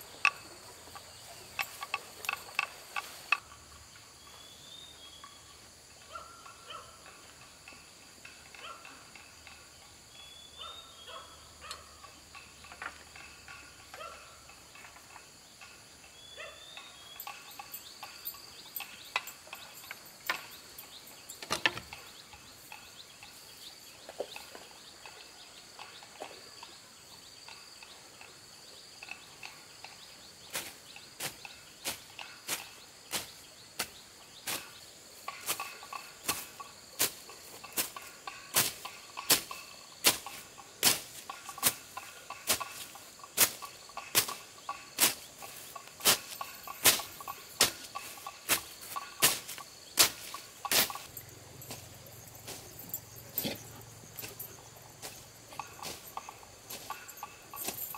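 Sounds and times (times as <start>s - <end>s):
bird chirps: 0.0s - 57.9s
insects buzzing: 0.0s - 57.9s.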